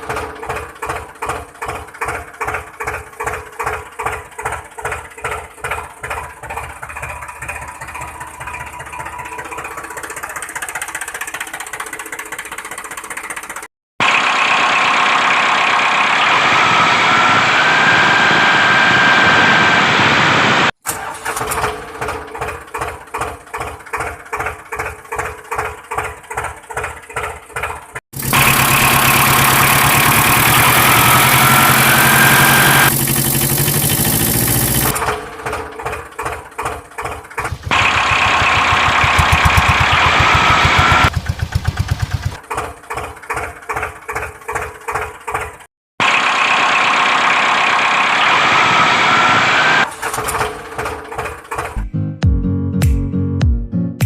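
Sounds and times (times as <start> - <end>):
tractor engine chugging: 0.0 - 17.2, 21.0 - 48.9, 49.8 - 51.8.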